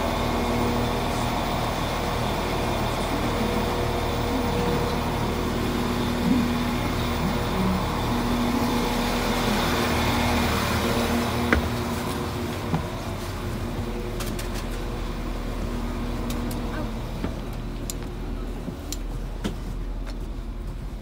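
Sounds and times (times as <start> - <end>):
train engine hum inside carriage: 0.0 - 21.0.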